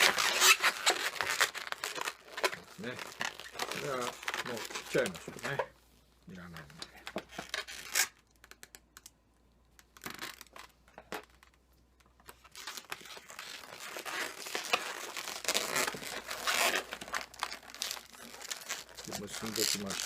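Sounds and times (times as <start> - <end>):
balloon rubbing and crinkling: 0.0 - 8.7, 9.9 - 20.0.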